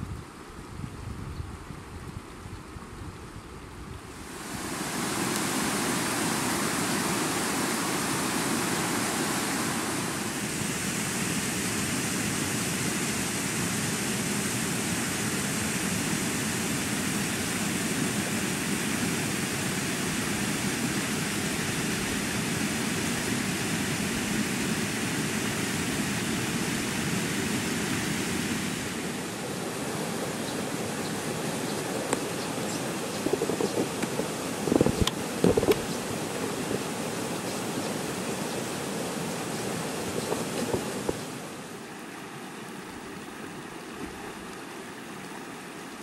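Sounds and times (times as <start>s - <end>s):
water rushing over rocks: 4.1s - 46.0s.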